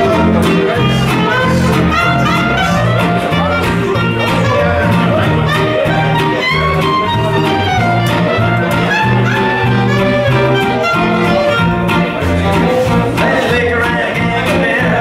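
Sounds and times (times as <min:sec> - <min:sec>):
saxophone melody: 0:00.0 - 0:14.5
fiddle melody: 0:00.0 - 0:15.0
live band playing instrumental: 0:00.0 - 0:15.0.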